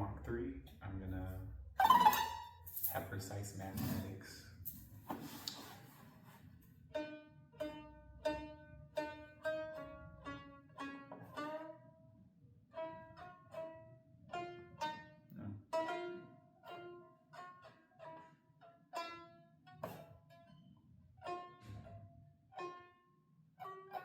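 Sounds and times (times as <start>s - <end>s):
plucked string instrument notes: 0.0s - 4.2s, 6.8s - 12.1s, 12.7s - 24.0s.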